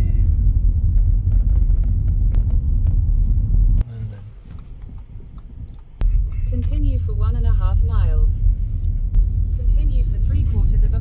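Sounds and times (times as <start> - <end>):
quiet cabin hum: 0.0 - 11.0
road and engine rumble in car: 0.0 - 11.0.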